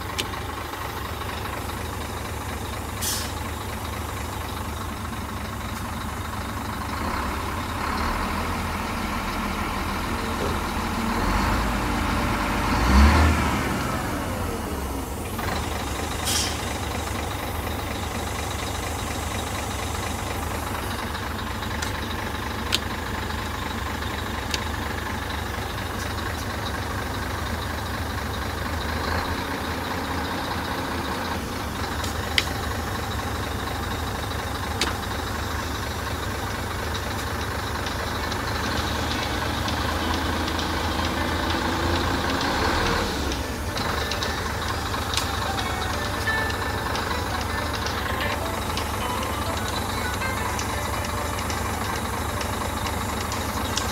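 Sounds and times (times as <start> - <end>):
diesel truck engine revving: 0.0 - 53.9.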